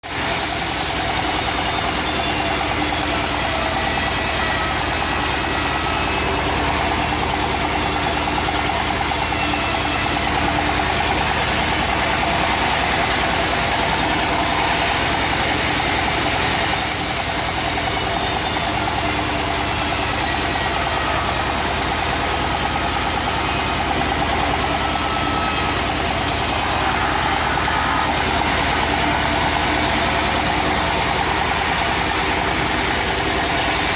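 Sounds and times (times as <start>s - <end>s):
wood-cutting machine droning: 0.0s - 33.9s.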